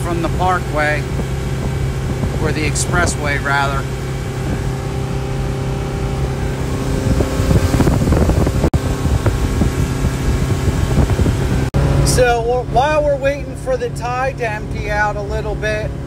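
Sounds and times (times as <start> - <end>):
motorboat engine hum: 0.0 - 16.0
water rushing along hull: 0.0 - 16.0.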